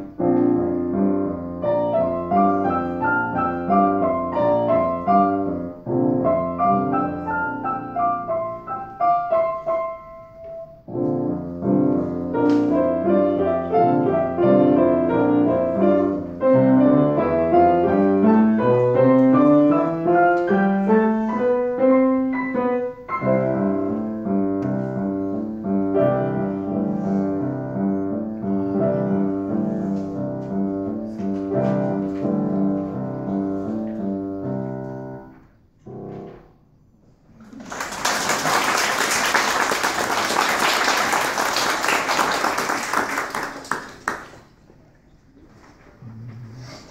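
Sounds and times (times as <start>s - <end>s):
lively piano ensemble: 0.0s - 46.9s.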